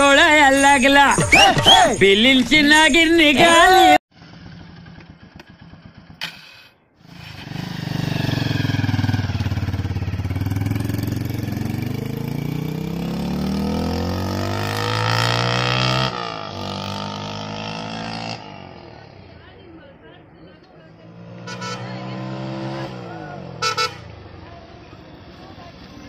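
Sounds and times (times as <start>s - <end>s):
motorcycle engine accelerating: 4.1s - 26.0s.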